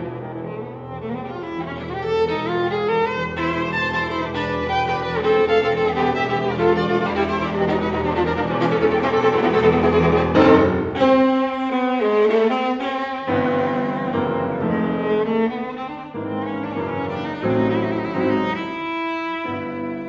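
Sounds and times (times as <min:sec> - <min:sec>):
bowed viola: 0:00.0 - 0:20.0
grand piano: 0:00.0 - 0:20.0.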